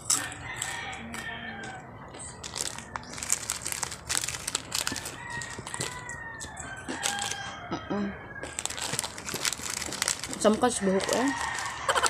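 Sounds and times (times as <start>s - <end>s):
plastic bag crinkling: 0.0s - 7.5s, 8.4s - 12.0s
snack being chewed: 0.0s - 7.5s, 8.4s - 10.4s, 11.3s - 12.0s.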